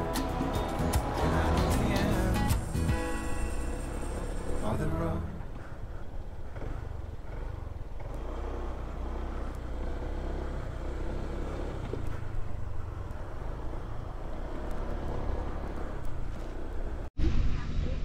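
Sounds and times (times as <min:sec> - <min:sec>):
scooter engine running: 0:00.0 - 0:17.1.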